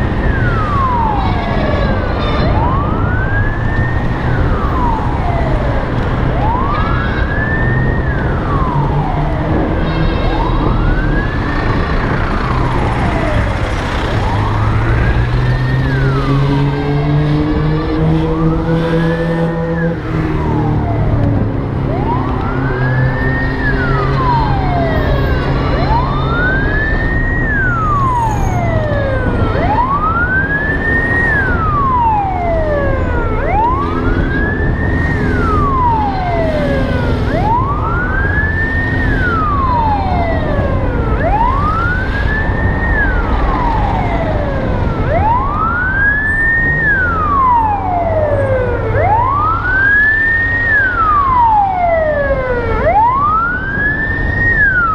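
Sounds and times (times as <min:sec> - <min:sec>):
emergency siren wailing: 0:00.0 - 0:54.9.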